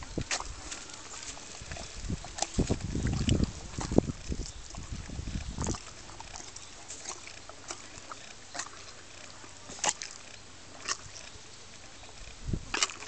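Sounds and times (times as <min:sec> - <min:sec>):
horse lips clicking: 0:00.0 - 0:13.0.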